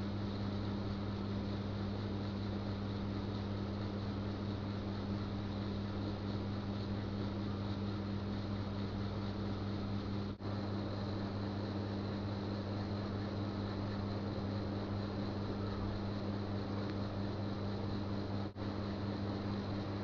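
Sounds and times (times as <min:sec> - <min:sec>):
constant hiss: 0:00.0 - 0:20.0
low electrical hum: 0:00.0 - 0:20.0.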